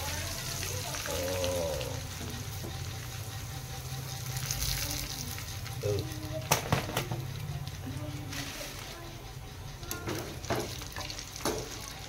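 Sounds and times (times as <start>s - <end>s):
rice sizzling in hot oil: 0.0s - 12.0s.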